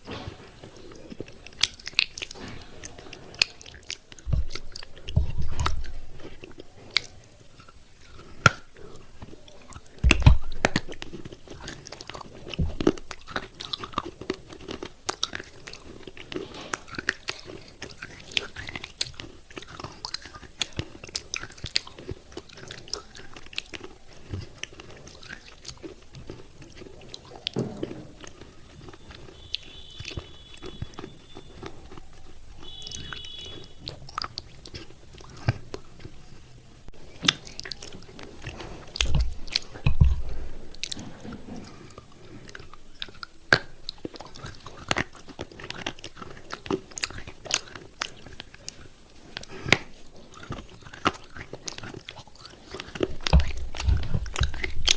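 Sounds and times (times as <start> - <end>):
crunching clay pot pieces: 0.0 - 54.9.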